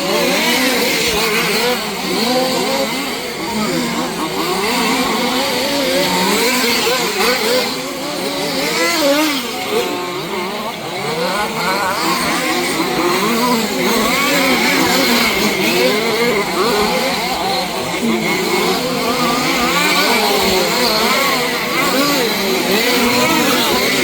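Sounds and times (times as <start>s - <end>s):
rc car engines revving: 0.0s - 24.0s.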